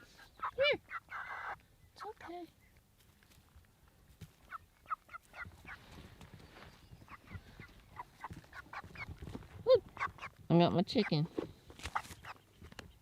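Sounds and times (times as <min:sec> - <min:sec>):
young chickens peeping: 0:00.0 - 0:13.0.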